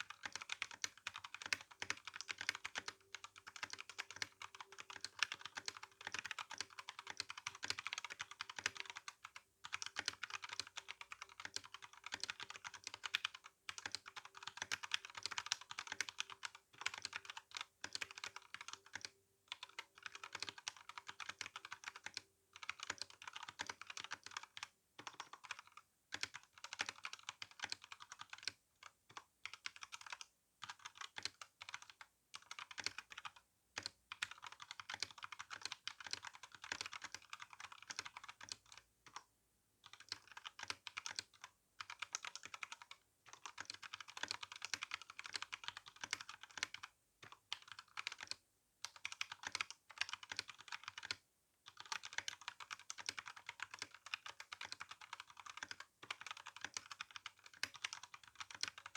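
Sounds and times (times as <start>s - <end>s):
fast typing on mechanical keyboard: 0.0s - 39.2s, 39.8s - 58.9s.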